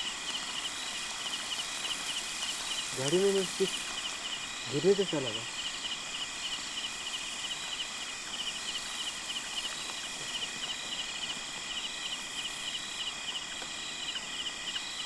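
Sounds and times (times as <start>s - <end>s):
crickets chirping: 0.0s - 15.0s
high-pitched insect drone: 0.0s - 15.0s.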